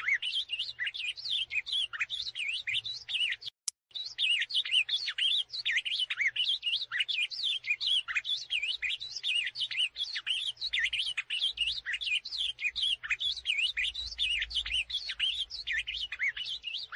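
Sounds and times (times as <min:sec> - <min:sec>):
bird singing fast warble: 0:00.0 - 0:16.9.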